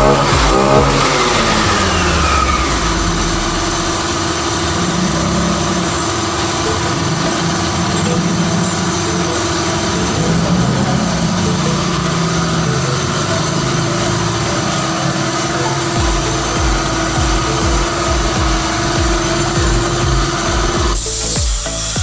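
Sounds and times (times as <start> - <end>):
motorcycle engine idling: 0.0 - 22.0
motorcycle engine revving down: 0.0 - 22.0.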